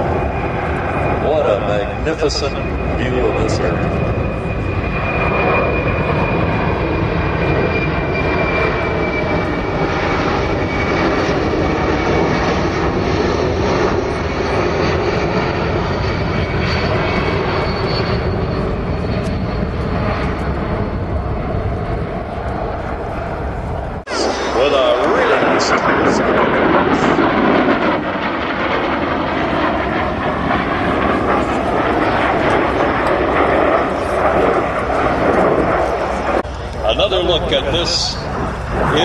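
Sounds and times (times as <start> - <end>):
jet airlifter flying past: 0.0 - 39.0.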